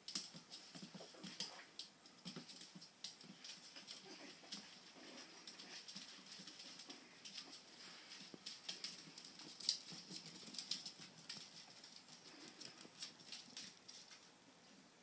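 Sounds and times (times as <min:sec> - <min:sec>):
puppies' claws clicking on floor: 0:00.0 - 0:14.4.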